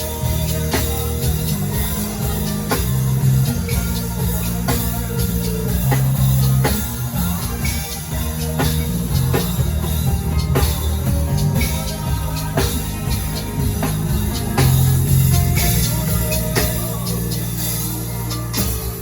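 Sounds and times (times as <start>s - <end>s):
drum accents: 0.0s - 19.0s
instrumental worship band: 0.0s - 19.0s.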